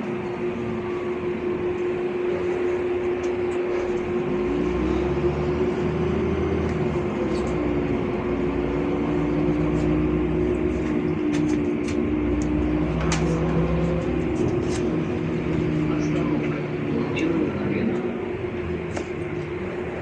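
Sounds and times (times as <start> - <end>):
bus drivetrain whine: 0.0 - 20.0
deep engine rumble: 0.0 - 20.0.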